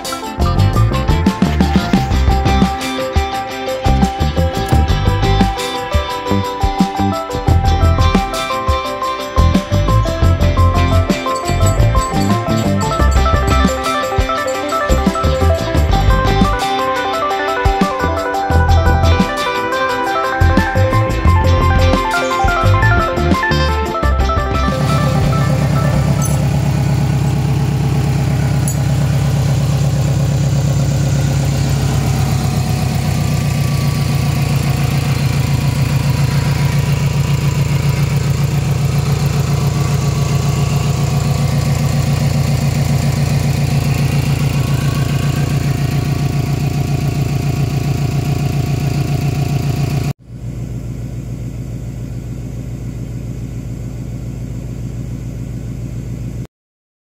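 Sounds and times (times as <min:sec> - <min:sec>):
car engine idling: 0:00.0 - 0:17.0, 0:20.4 - 0:56.4.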